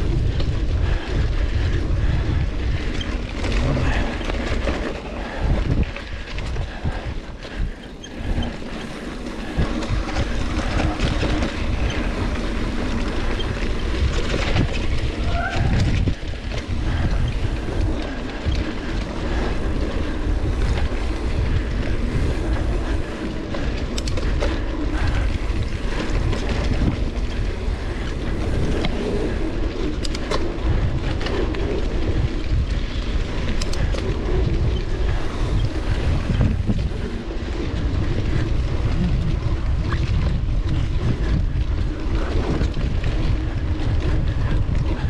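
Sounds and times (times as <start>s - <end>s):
bike rattles and knocks: 0.0s - 45.0s
mountain bike rumble: 0.0s - 45.0s.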